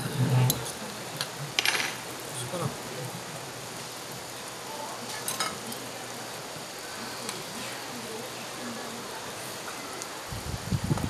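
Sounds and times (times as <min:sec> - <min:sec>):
food sizzling on hot stone: 0:00.0 - 0:11.0.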